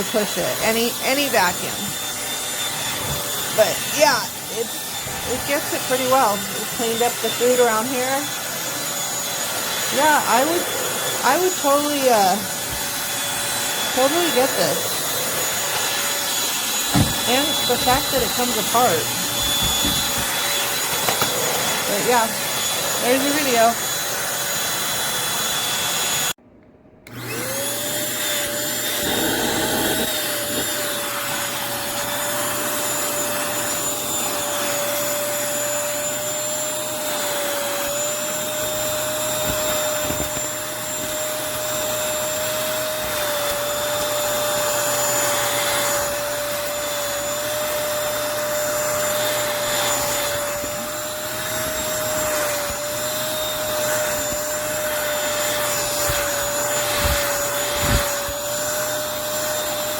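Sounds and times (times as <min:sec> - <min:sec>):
stick vacuum motor whine: 0:00.0 - 0:26.4, 0:27.0 - 0:59.9.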